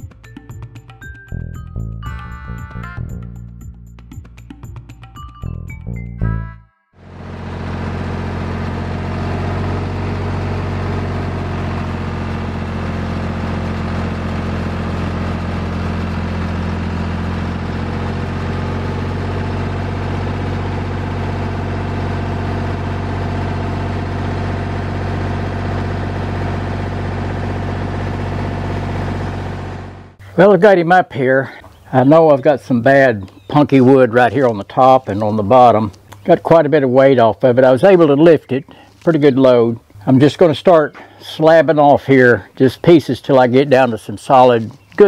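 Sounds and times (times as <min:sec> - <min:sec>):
tractor engine running: 0:07.0 - 0:45.0.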